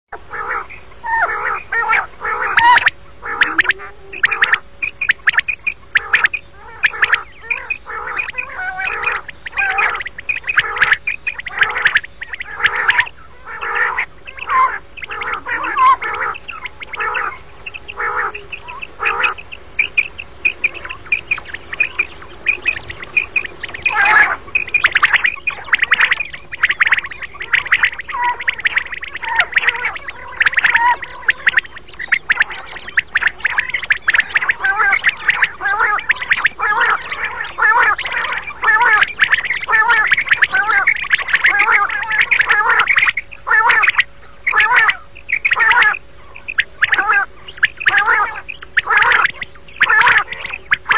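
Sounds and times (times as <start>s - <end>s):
quail calling: 0.3s - 50.9s.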